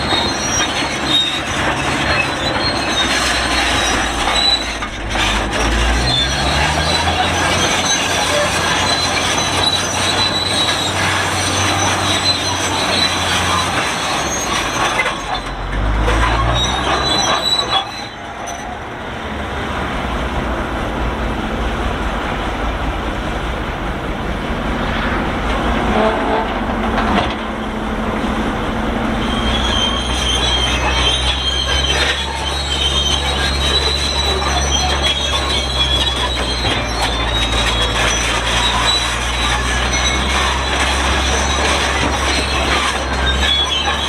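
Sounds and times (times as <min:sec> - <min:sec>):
bulldozer creaking and squealing: 0:00.0 - 0:44.0
diesel engine running: 0:00.0 - 0:44.0.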